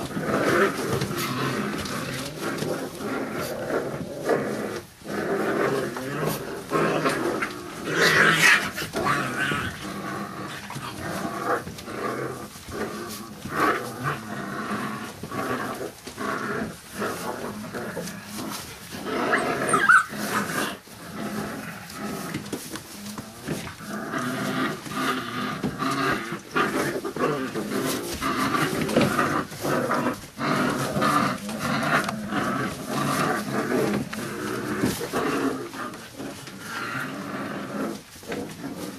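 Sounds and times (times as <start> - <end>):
puppies whimpering and grunting: 0.0 - 38.9.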